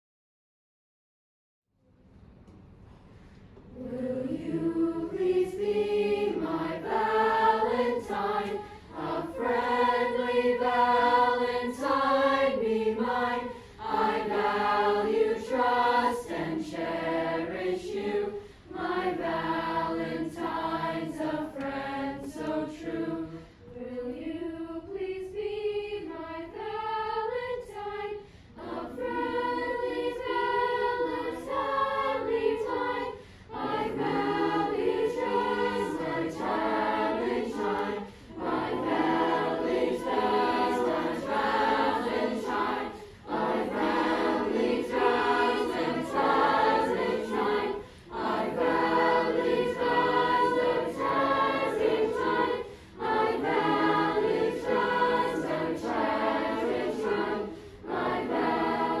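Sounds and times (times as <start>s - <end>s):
children's chorus singing a round: 3.8s - 59.0s.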